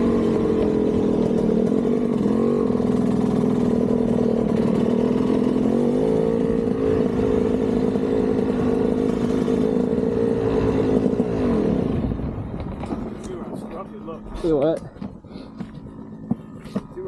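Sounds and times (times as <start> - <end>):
two-stroke dirt bike engine running: 0.0 - 17.0.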